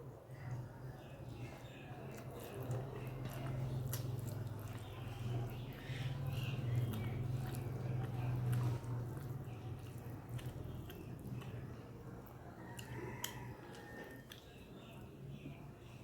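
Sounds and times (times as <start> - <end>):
person chewing food: 1.4 - 15.1.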